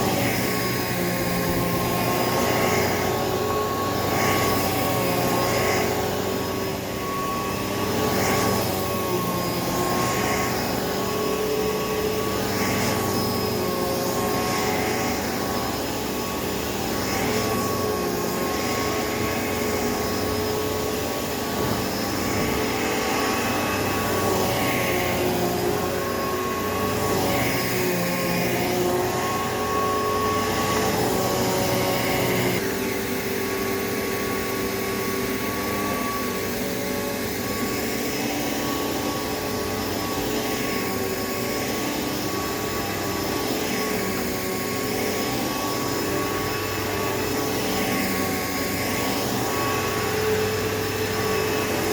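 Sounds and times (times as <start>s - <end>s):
vacuum cleaner whine: 0.0s - 51.9s.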